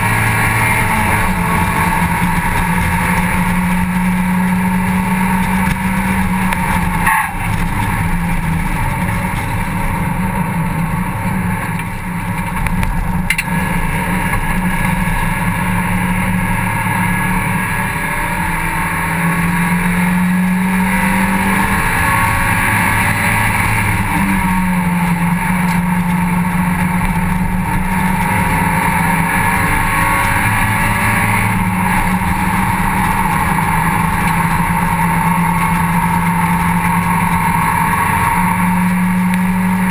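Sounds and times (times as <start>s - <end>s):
racing car engine running hard: 0.0s - 39.9s.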